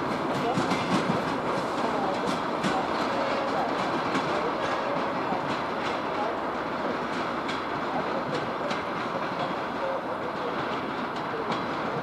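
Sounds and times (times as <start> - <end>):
train wheels rumbling on track: 0.0 - 12.0
wheels clicking over rail joints: 0.0 - 12.0.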